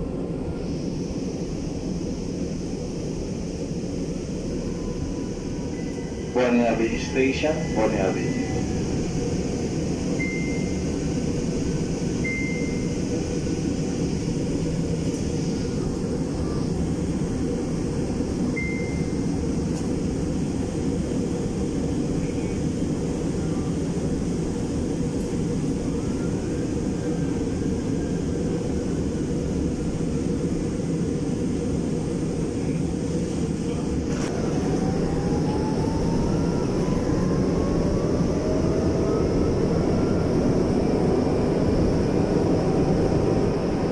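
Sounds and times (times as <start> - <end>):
train low rumble: 0.0 - 43.9.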